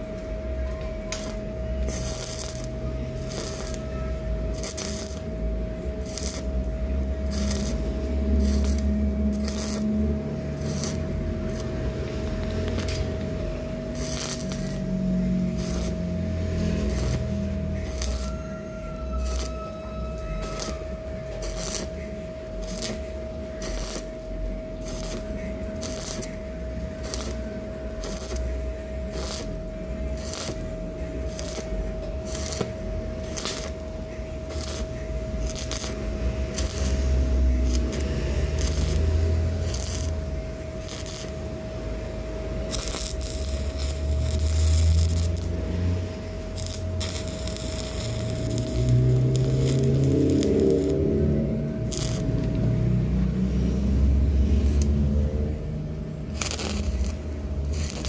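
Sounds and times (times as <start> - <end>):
arc welder crackling: 0.0 - 58.0
steady welder hum: 0.0 - 58.0.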